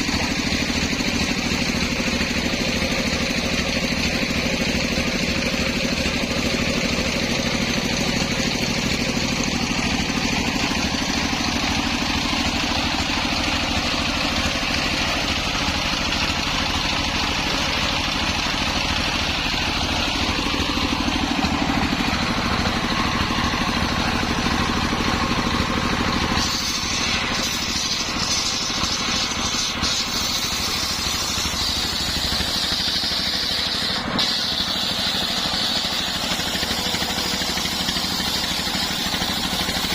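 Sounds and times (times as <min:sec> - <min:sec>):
engine-driven circular saw running: 0:00.0 - 0:39.9.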